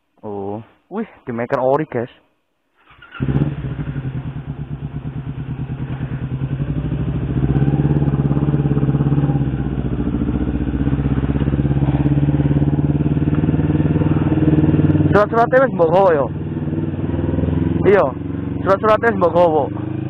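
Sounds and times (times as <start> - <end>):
motorcycle engine running: 2.9 - 20.0.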